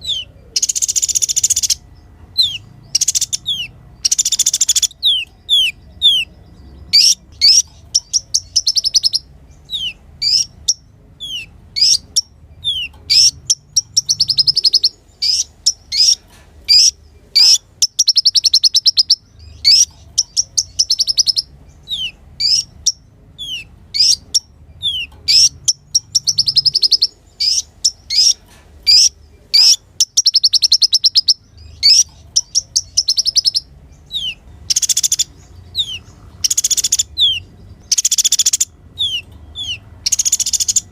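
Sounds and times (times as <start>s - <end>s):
sunbird singing: 0.0s - 40.9s.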